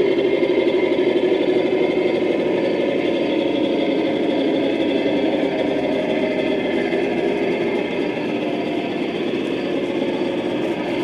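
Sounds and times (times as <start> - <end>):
steady mechanical drone: 0.0 - 11.0.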